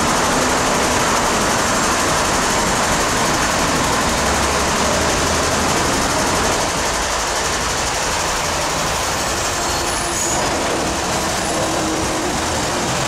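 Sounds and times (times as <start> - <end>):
electric train hum approaching: 0.0 - 13.0.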